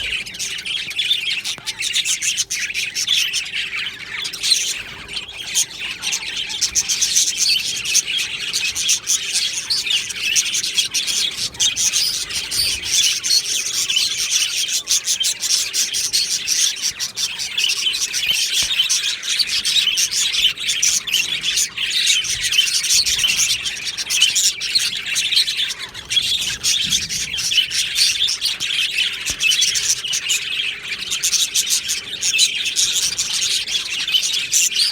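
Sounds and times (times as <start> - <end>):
budgerigars chirping and warbling: 0.0 - 34.9.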